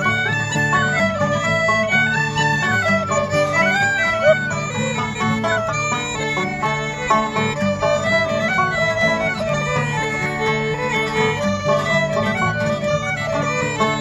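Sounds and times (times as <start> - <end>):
fiddles and guitar playing: 0.0 - 14.0.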